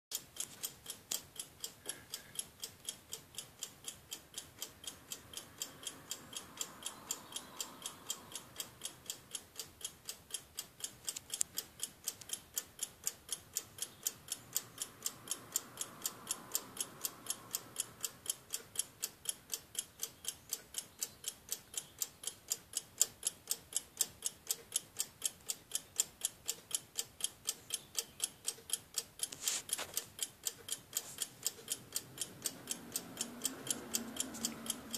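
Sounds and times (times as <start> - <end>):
alarm clock ticking: 0.1 - 34.9.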